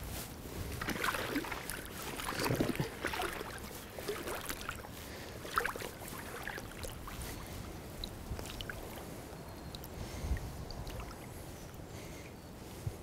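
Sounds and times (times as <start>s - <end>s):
water sloshing around legs: 0.5s - 11.8s.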